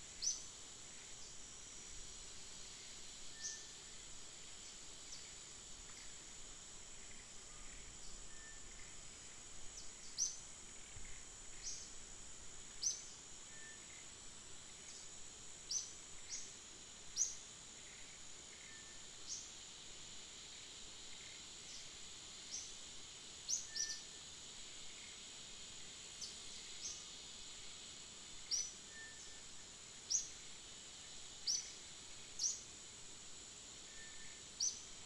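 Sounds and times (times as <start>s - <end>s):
high-pitched insect buzz: 0.0s - 35.0s.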